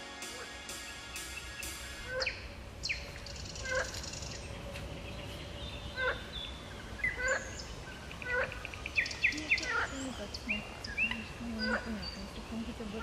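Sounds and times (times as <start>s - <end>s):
bird trill: 0.1s - 13.0s
high bird chirps: 0.3s - 12.5s.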